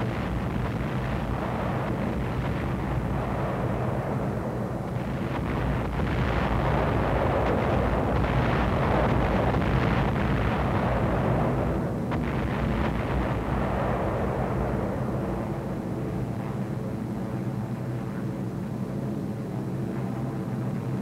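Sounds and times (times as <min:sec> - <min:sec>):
bomb explosions: 0:00.0 - 0:17.3.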